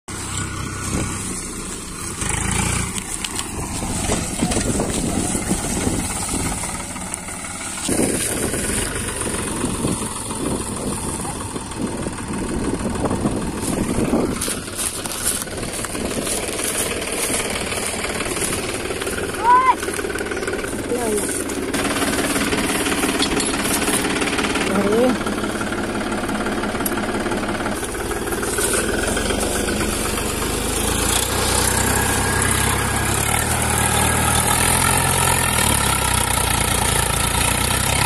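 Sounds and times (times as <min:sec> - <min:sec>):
diesel tractor engine running: 0:00.1 - 0:38.0.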